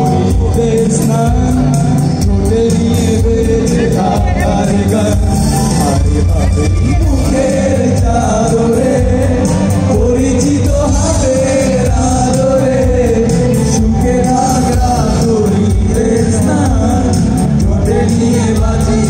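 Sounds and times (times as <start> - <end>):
live band music over pa: 0.0 - 19.0
men singing: 0.0 - 19.0.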